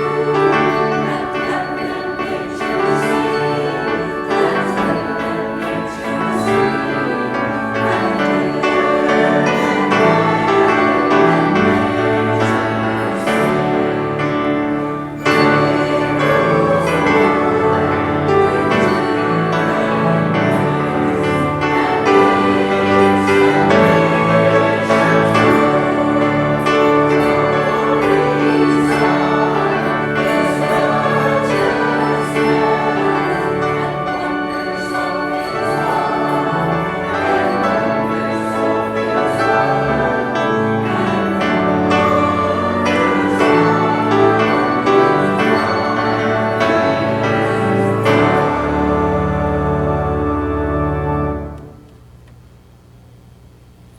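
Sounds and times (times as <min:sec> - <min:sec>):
choir singing: 0:00.0 - 0:51.9.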